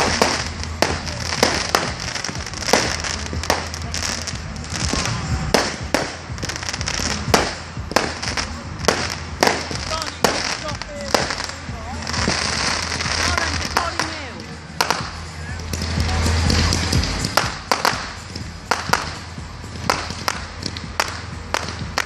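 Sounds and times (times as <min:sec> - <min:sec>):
firework bangs: 0:00.0 - 0:22.0
firework crackling: 0:00.0 - 0:22.0.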